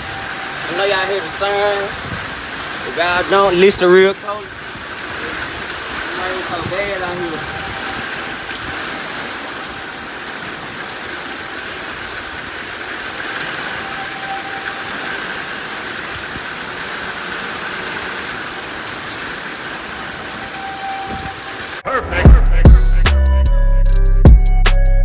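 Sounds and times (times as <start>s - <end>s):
heavy rain falling: 0.0s - 21.9s
distant warning siren: 0.0s - 22.2s.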